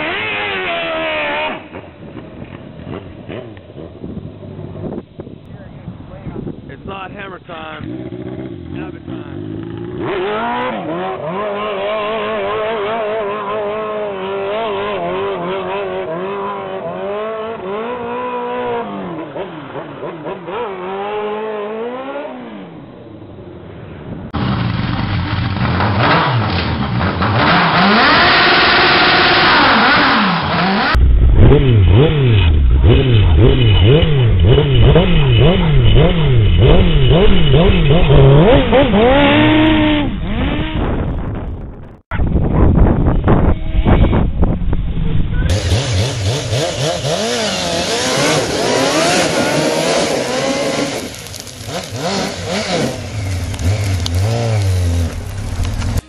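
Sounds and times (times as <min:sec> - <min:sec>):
quad bike riding away: 0:00.0 - 0:05.3, 0:07.1 - 0:56.0
quad bike engines revving: 0:00.0 - 0:22.8, 0:24.3 - 0:56.0.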